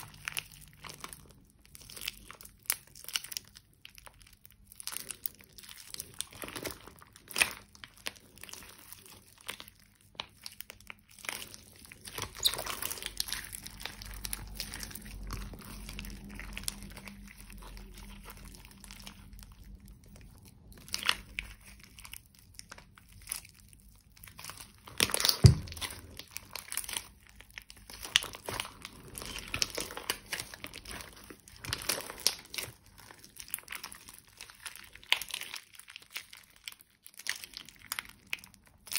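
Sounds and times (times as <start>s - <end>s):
hands squishing sticky slime: 0.0s - 38.9s.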